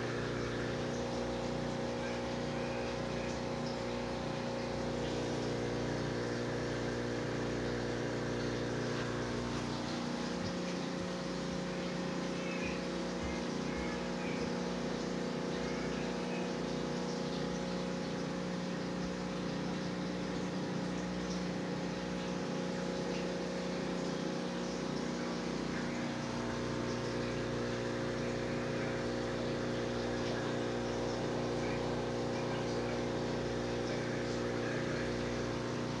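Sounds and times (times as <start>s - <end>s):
aquarium pump humming: 0.0s - 36.0s.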